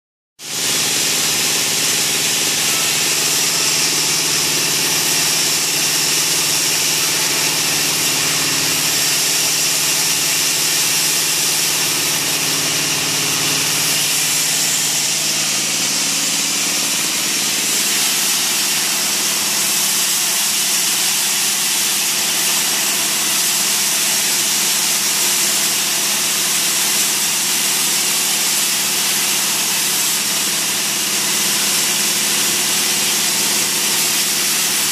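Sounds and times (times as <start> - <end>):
band saw running: 0.4 - 34.9.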